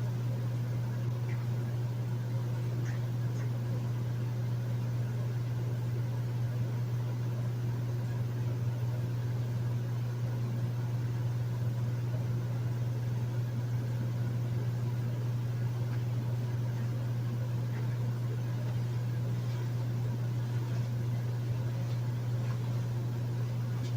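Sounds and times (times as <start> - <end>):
air conditioner humming: 0.0 - 23.9.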